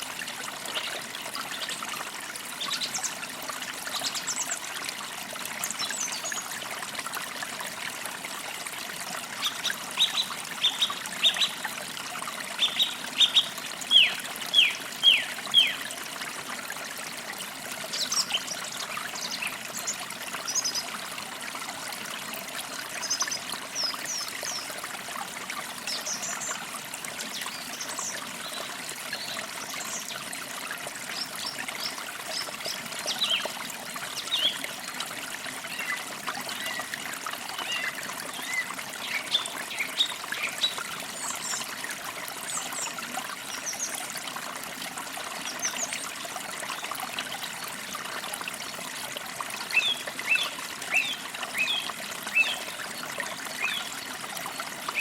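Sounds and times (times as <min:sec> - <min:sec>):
creek babbling over stones: 0:00.0 - 0:55.0.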